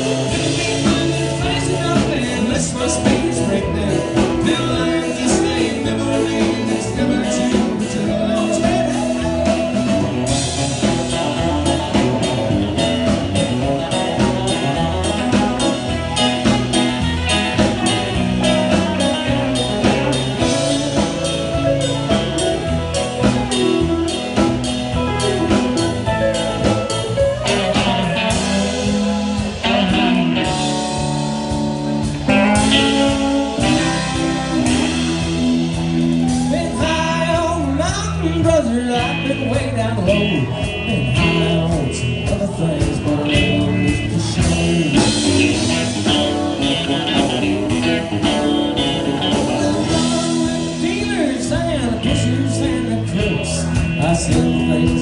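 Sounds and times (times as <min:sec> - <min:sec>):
country band playing live: 0:00.0 - 0:55.0
electric guitars: 0:00.0 - 0:55.0.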